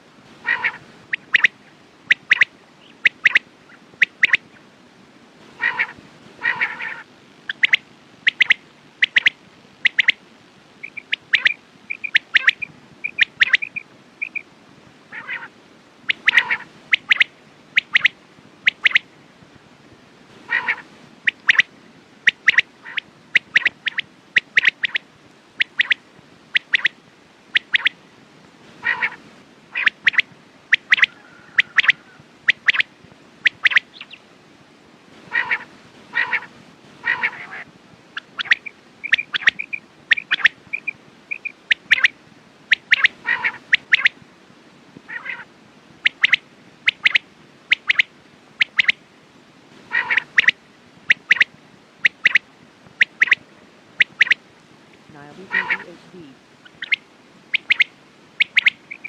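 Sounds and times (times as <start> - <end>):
quail calling: 0.4 - 4.6, 5.6 - 10.2, 10.8 - 14.5, 15.1 - 19.1, 20.4 - 25.0, 25.6 - 28.0, 28.8 - 34.2, 35.3 - 44.2, 45.1 - 49.0, 49.8 - 52.4, 53.0 - 54.4, 55.2 - 59.0.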